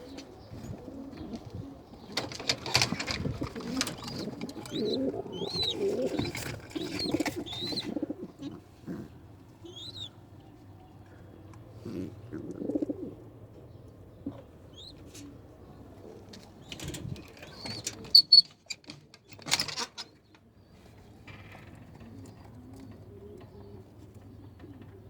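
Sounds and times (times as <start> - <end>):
pigeons cooing: 0.0 - 10.3, 11.1 - 18.2, 22.0 - 25.0.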